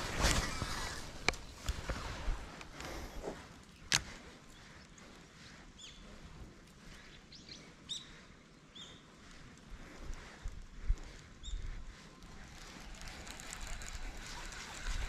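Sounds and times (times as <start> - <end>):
faint outdoor background noise: 0.0 - 15.0
small birds chirping: 2.7 - 15.0.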